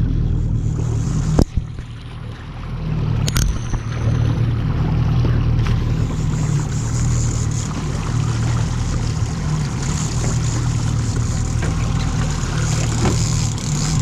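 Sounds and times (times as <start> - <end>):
outboard motor running: 0.0 - 14.0
water rushing past hull: 0.0 - 14.0.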